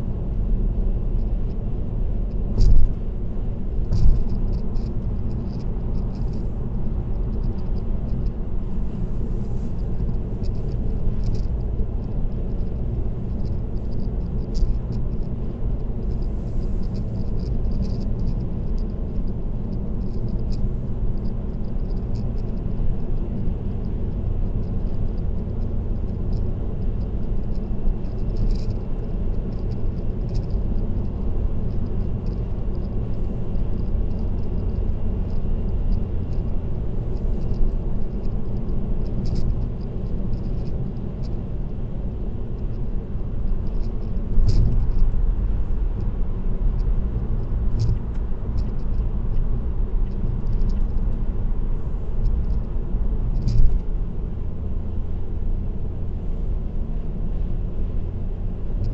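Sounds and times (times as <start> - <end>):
tyre and road noise: 0.0 - 58.9.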